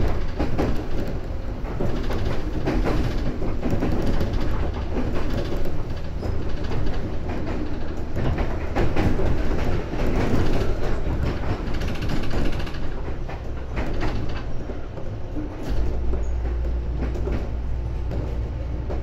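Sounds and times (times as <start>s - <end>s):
train rumbling: 0.0s - 19.0s
wheels clacking over rail joints: 0.0s - 19.0s.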